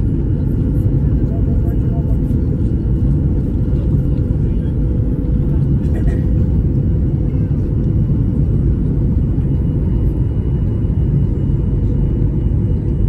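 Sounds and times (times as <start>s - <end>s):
airliner cabin engine roar: 0.0s - 13.0s.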